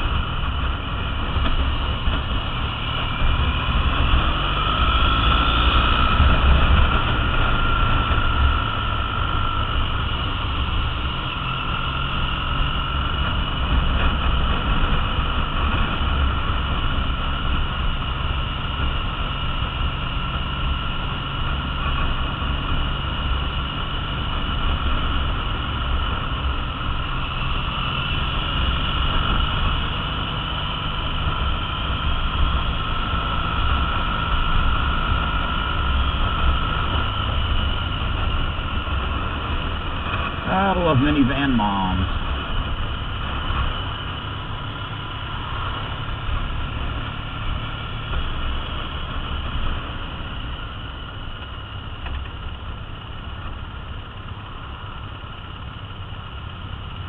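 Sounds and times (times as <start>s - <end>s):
motorcycle engine running: 0.0s - 57.0s
rush of riding wind: 0.0s - 57.0s.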